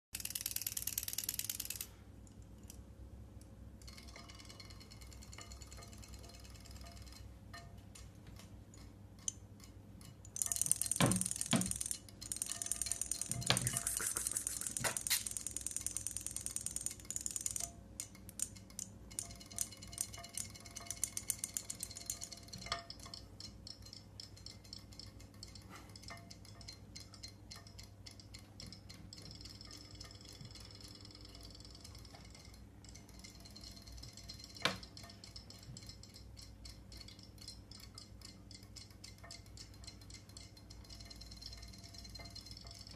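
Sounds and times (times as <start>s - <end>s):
faint hum: 0.2s - 42.9s
robotic toy fish ticking: 0.2s - 42.9s.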